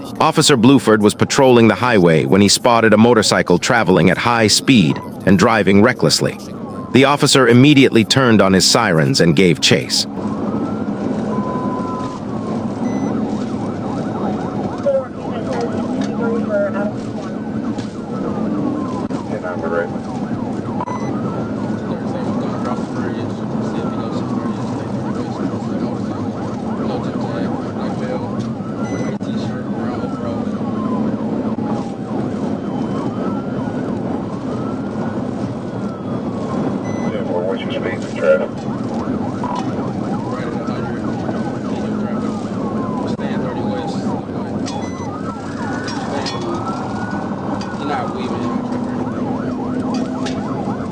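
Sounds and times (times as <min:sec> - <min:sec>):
engine and road noise: 0:00.0 - 0:50.9
police siren wailing and yelping: 0:00.0 - 0:50.9.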